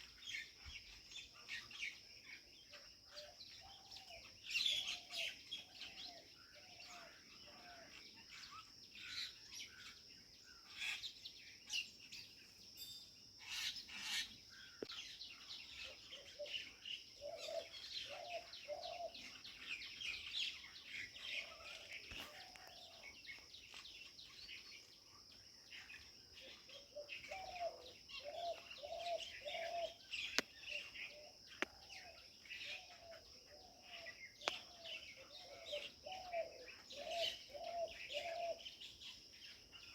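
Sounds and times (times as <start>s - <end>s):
birds chirping: 0.0s - 39.9s
low repeated bird call: 0.0s - 39.9s.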